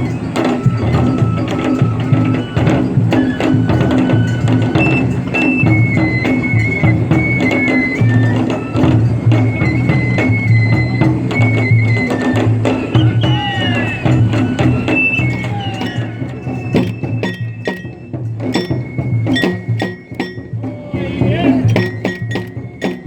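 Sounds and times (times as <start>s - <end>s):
clicking percussion strikes: 0.0s - 23.0s
drums: 0.0s - 23.0s
high piping flute melody: 0.0s - 23.0s.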